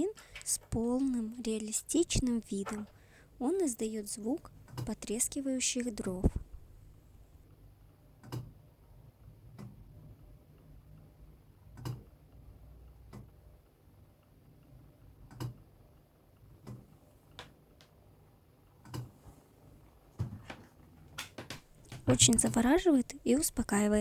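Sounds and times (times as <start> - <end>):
faint low background noise: 0.0 - 24.0.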